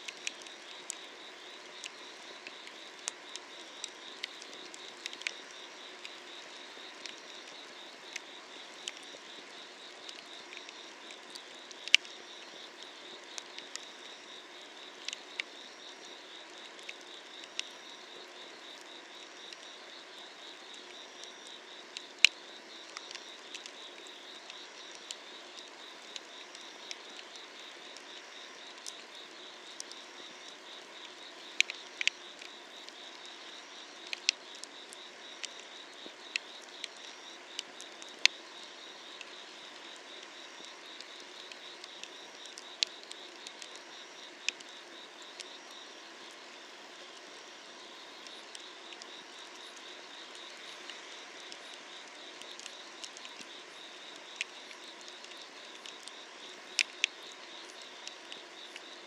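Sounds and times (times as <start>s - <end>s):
firewood crackling and popping: 0.0s - 45.6s, 48.1s - 59.0s
insects chirping: 0.0s - 59.0s.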